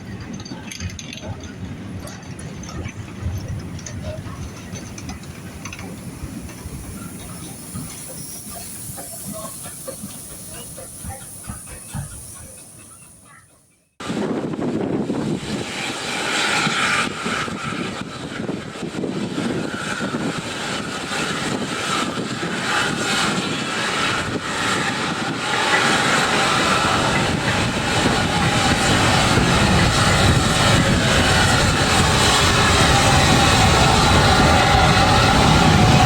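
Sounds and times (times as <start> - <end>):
steam train rumbling: 0.0 - 36.0.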